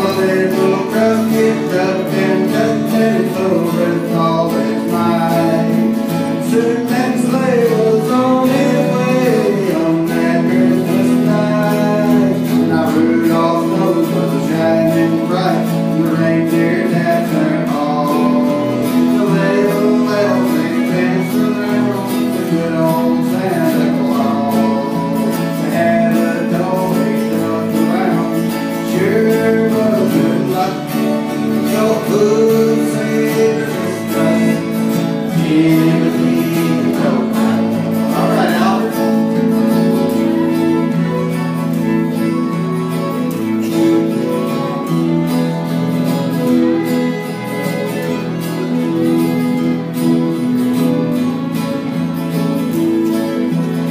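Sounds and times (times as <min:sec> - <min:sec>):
fiddle melody: 0:00.0 - 0:53.9
strummed guitars: 0:00.0 - 0:53.9.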